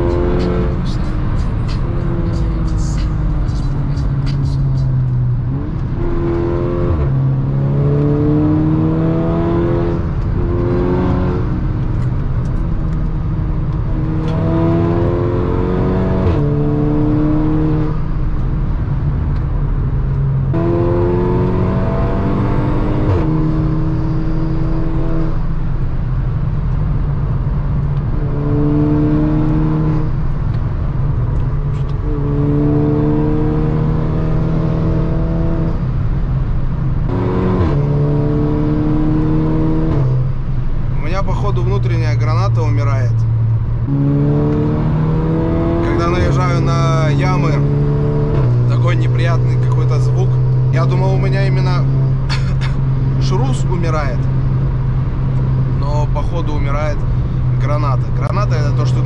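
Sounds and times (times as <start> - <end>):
car engine accelerating: 0.0 - 59.0
low road drone: 0.0 - 59.0.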